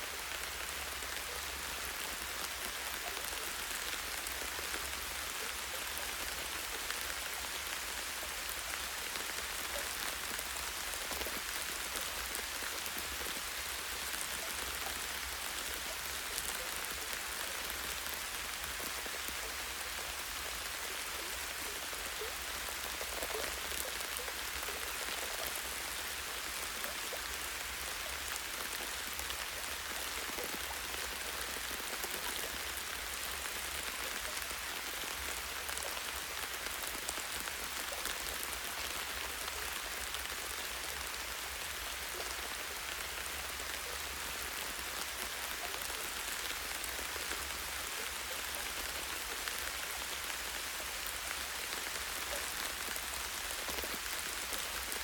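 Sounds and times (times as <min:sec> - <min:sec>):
light rain on trees: 0:00.0 - 0:55.0.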